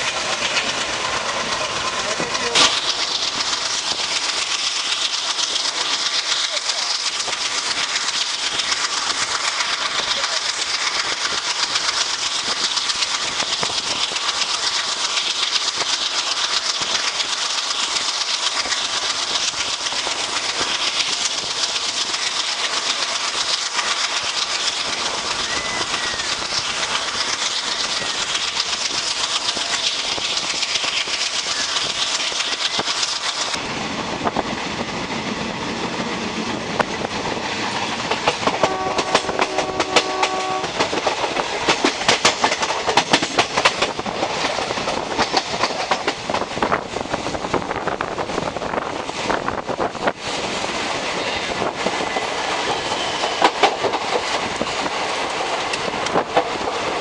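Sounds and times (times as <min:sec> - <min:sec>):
train wheels rushing on rails: 0:00.0 - 0:57.0.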